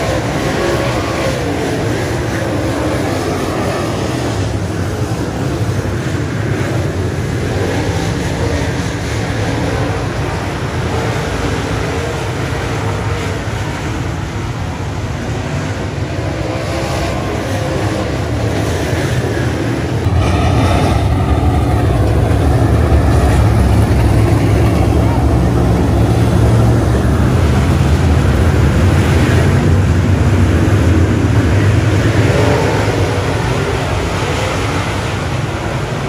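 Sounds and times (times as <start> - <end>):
race car engines droning: 0.0 - 36.0.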